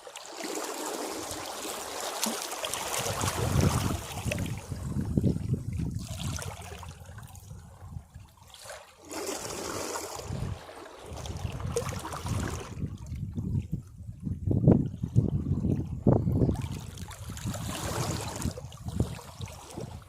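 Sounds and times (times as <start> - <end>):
sea waves breaking against rocks: 0.0 - 13.0, 16.0 - 20.0.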